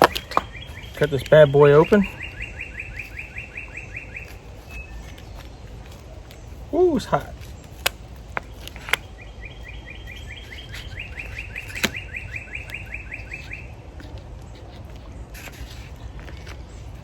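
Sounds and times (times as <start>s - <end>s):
songbird trilling: 0.0s - 17.0s.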